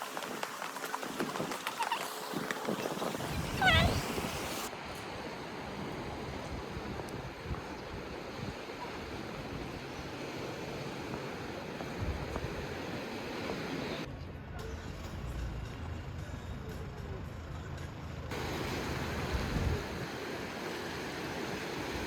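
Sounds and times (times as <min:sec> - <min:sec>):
waves washing in: 0:00.0 - 0:14.1, 0:18.3 - 0:22.0.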